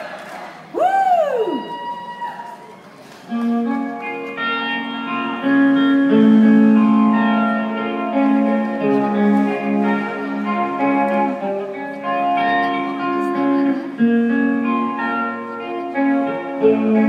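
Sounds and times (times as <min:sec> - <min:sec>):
electric guitars sustained notes: 0:03.3 - 0:17.0.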